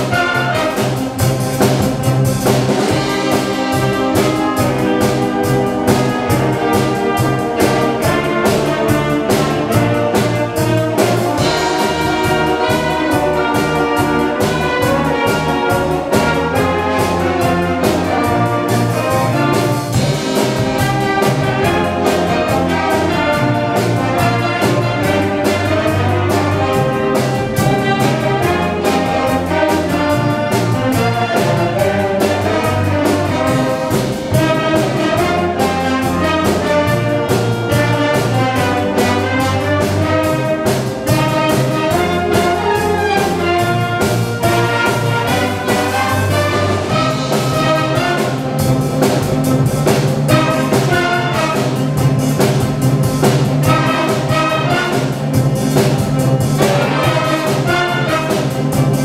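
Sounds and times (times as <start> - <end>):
concert wind band playing: 0.0 - 59.0.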